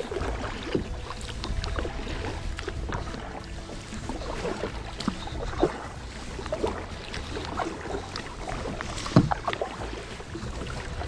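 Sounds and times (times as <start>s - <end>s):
sharp splash or knock: 0.0s - 10.8s
paddle splashing water: 0.0s - 11.0s
steady low rumble: 0.0s - 11.0s.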